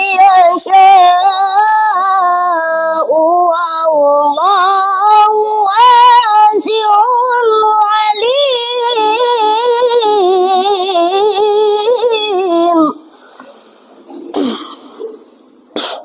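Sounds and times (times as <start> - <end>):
boy chanting recitation: 0.0 - 13.6.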